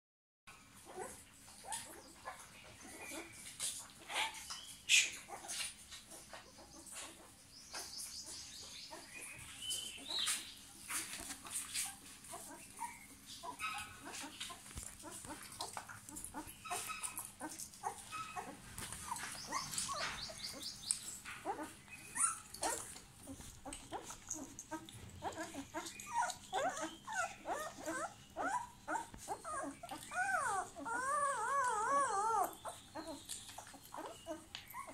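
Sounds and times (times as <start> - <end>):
puppies squeaking and whimpering: 0.8 - 34.9.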